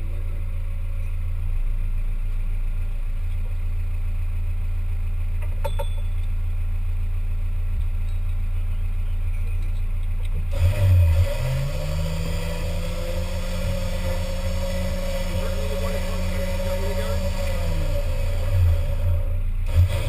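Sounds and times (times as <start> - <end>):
engine running and revving: 0.0 - 1.1, 1.8 - 20.0.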